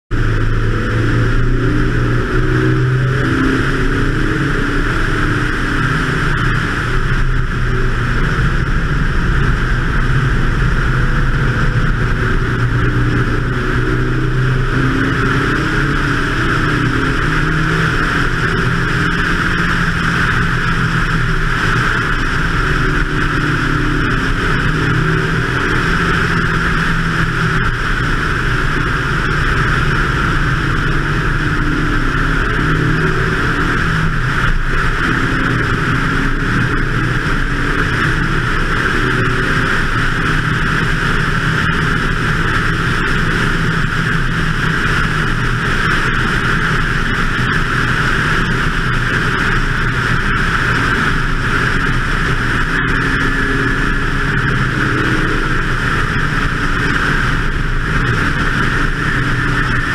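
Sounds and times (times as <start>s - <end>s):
race car engine revving: 0.1s - 59.9s.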